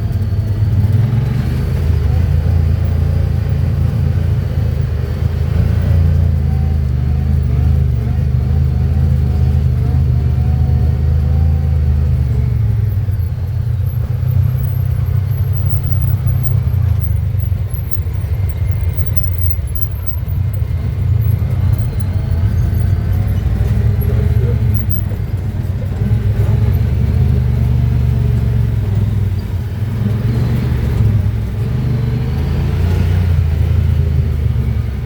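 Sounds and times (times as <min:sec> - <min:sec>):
utility vehicle engine running: 0:00.0 - 0:35.0.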